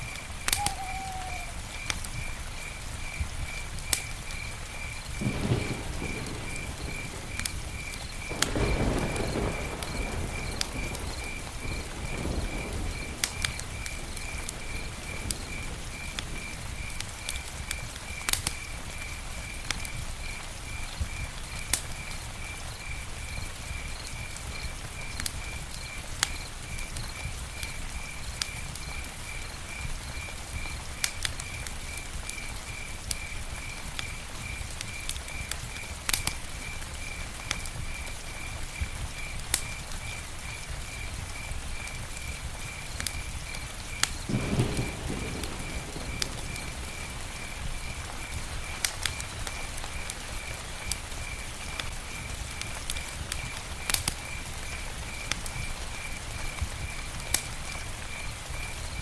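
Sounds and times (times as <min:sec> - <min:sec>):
wood crackling and popping: 0:00.0 - 0:59.0
fire rushing: 0:00.1 - 0:59.0.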